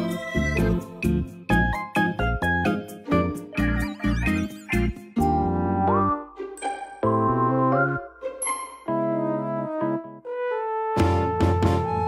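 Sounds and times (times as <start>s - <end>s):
playful music with bouncy beat: 0.0s - 12.0s.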